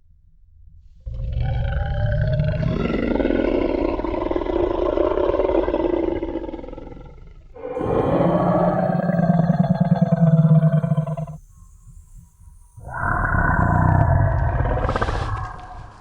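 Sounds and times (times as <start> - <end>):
deep rasping dinosaur roar: 1.1 - 11.4, 12.8 - 16.0.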